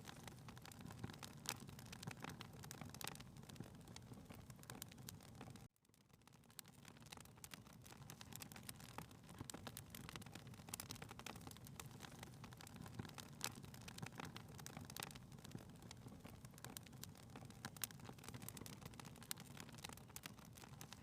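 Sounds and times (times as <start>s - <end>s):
faint wood fire crackling: 0.0s - 21.0s.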